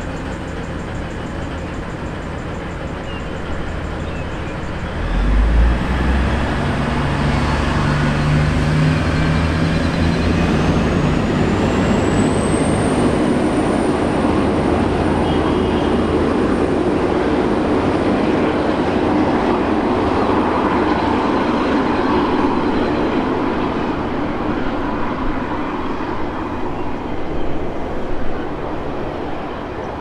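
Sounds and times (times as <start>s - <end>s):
diesel train engine drone: 0.0s - 30.0s
train clattering: 0.0s - 30.0s
wheel and rail noise: 0.0s - 30.0s.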